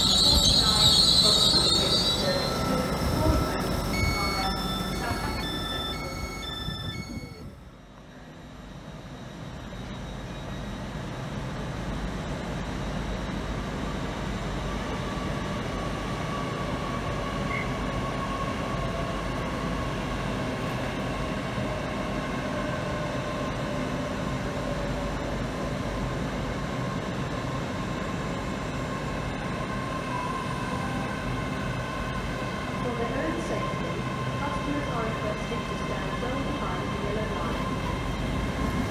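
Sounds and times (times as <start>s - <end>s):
train rumbling with whine: 0.0s - 38.9s.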